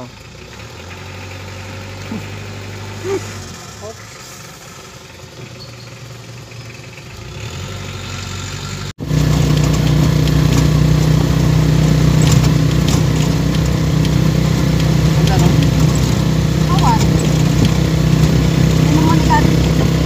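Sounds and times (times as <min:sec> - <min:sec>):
vehicle engine drone: 0:00.0 - 0:20.0.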